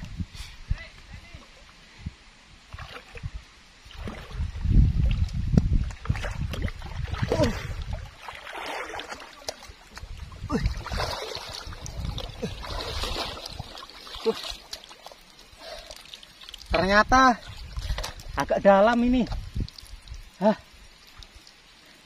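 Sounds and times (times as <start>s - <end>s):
water sloshing and gurgling: 2.6s - 21.9s.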